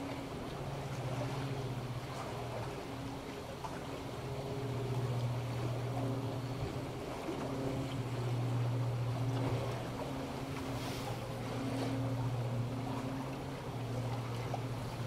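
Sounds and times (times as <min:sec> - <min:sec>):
sea waves washing on beach: 0:00.0 - 0:15.0.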